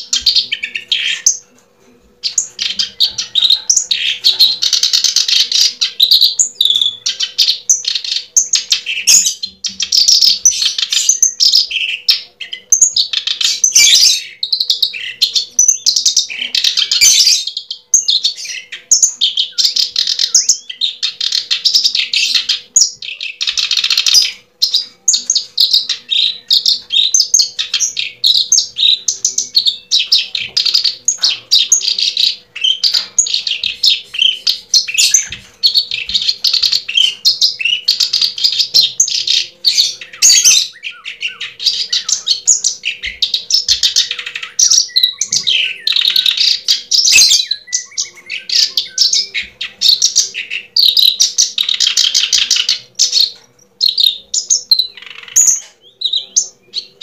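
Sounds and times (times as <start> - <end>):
bird chirping and twittering: 0.0 - 57.0.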